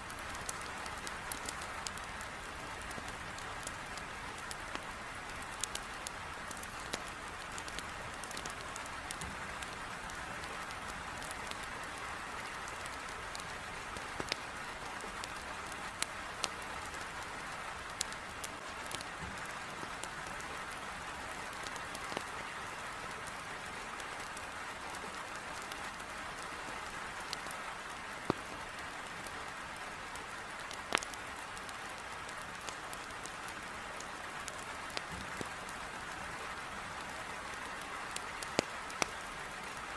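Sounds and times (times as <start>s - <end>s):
heavy rain on a window: 0.0s - 39.9s
wood fire crackling: 0.0s - 39.9s.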